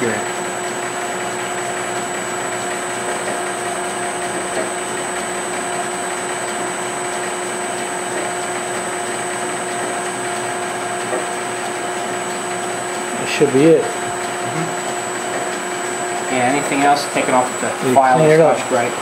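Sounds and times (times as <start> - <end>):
metal lathe humming and whining: 0.0 - 19.0.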